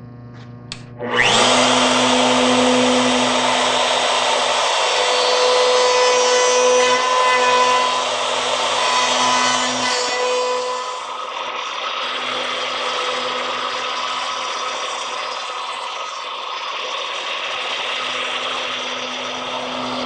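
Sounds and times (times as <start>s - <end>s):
electric router whining: 0.7s - 20.0s.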